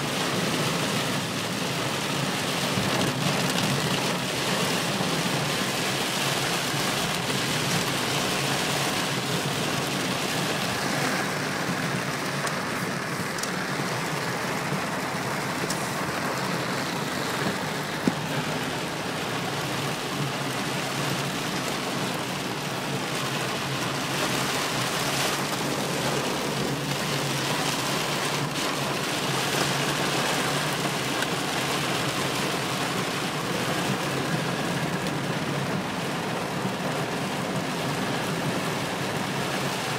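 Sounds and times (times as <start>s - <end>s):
heavy rain on car: 0.0s - 39.9s.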